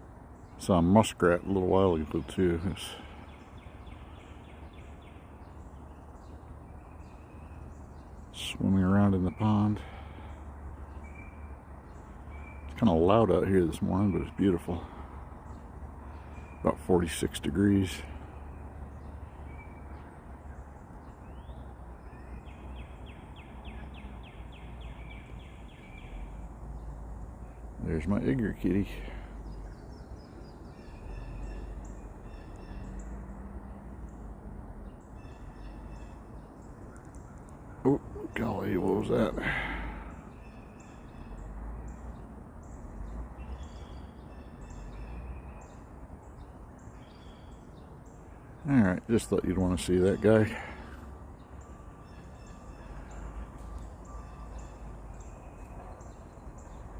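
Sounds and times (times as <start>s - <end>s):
low outdoor rumble: 0.0s - 56.9s
small birds chirping: 0.0s - 56.9s.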